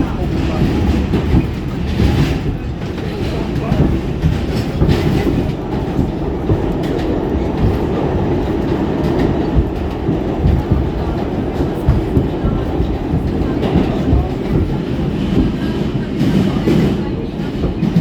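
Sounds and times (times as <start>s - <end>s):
clickety-clack over rail joints: 0.0s - 18.0s
subway car wheels rumbling: 0.0s - 18.0s.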